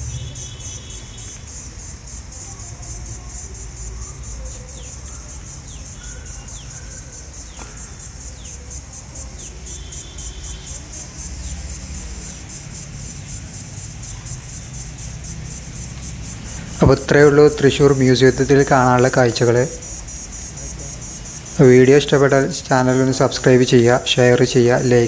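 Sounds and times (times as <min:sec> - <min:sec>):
insects calling: 0:00.0 - 0:25.0
bird chirps: 0:02.4 - 0:23.6.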